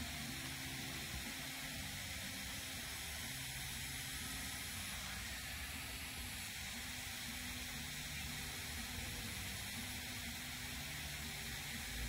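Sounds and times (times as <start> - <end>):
water mist spraying: 0.0 - 12.0.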